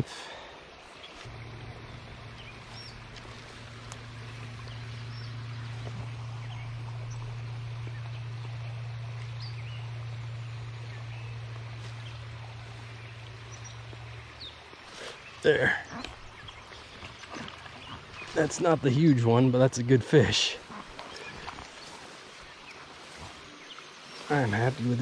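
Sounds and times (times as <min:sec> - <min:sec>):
creek water flowing: 0:00.0 - 0:25.0
steady low hum: 0:00.0 - 0:25.0.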